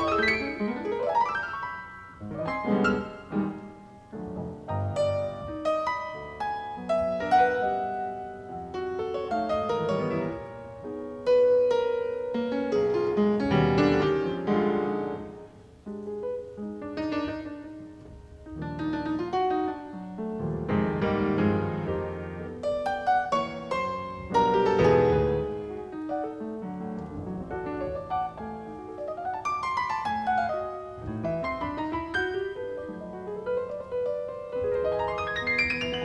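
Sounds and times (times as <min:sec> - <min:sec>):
jazz piano improvisation: 0:00.0 - 0:36.0.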